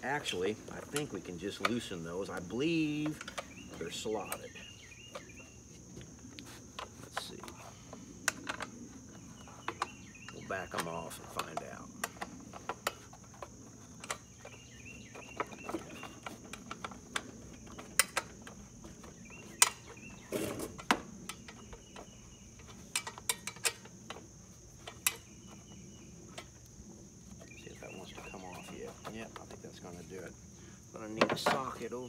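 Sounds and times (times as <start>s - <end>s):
insect buzz: 0.0s - 32.0s.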